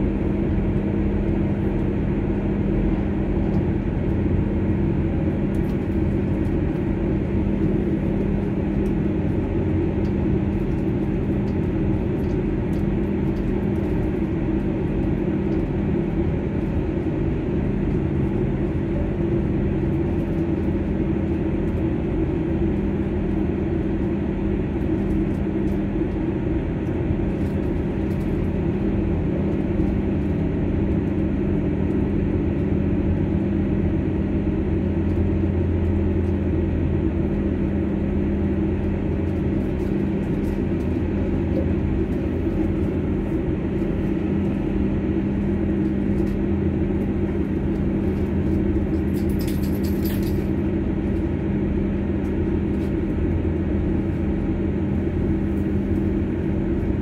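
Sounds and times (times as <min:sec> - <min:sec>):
train engine drone: 0:00.0 - 0:57.0
wheels rumbling on rails: 0:00.0 - 0:57.0.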